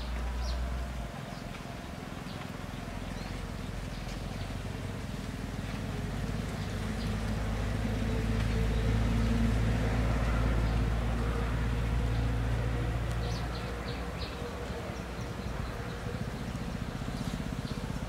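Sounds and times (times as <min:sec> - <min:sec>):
low pulsing engine: 0:00.0 - 0:18.0
motor engine droning: 0:01.8 - 0:18.0.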